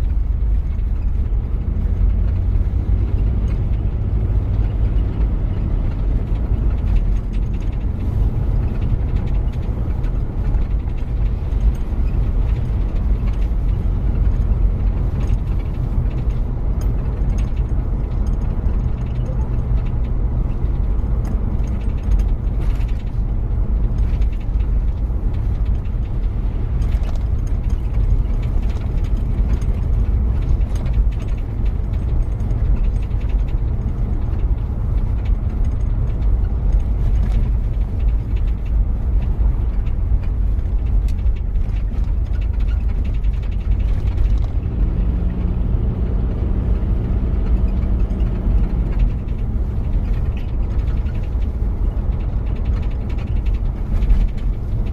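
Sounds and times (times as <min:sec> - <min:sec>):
diesel engine running: 0:00.0 - 0:54.9
light rattles and clicks: 0:00.0 - 0:54.9.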